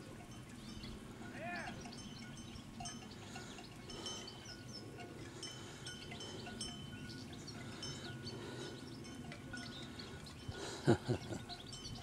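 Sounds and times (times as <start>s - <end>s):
cowbells clanking: 0.0s - 12.0s.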